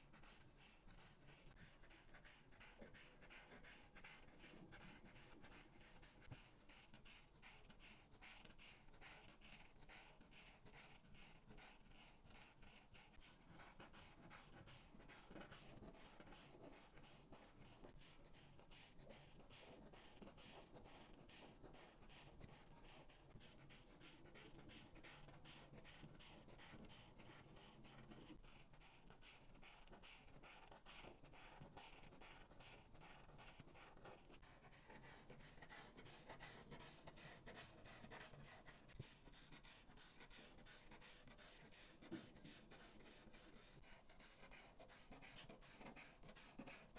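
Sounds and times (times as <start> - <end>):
marker scratching on paper: 0.0 - 46.9.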